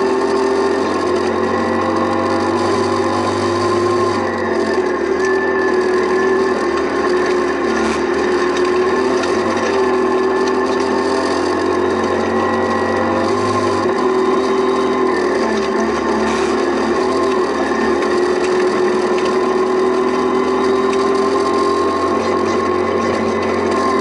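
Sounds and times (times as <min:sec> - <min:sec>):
rally car engine at high revs: 0:00.0 - 0:24.0
tyre and gravel noise: 0:00.0 - 0:24.0.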